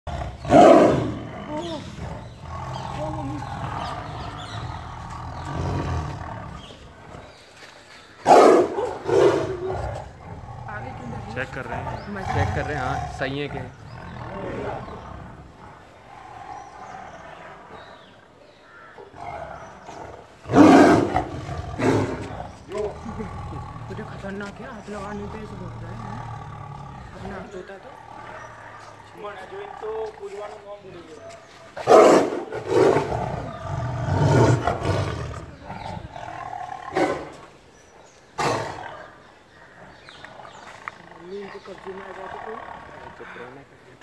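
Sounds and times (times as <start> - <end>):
tiger growling low: 0.0 - 7.6, 8.2 - 44.0.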